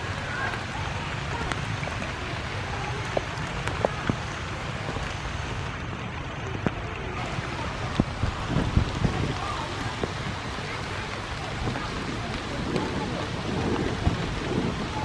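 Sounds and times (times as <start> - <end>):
sharp ticks of raindrops: 0.0 - 15.0
steady rain hiss: 0.0 - 15.0.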